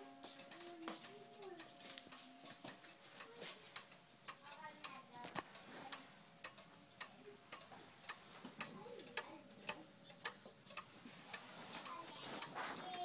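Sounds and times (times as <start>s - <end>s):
pendulum clock ticking: 0.0s - 13.0s.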